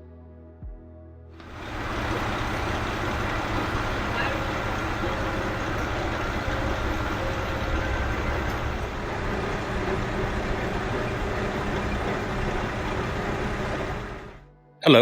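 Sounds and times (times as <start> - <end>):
diesel engine rumbling: 1.4 - 14.4.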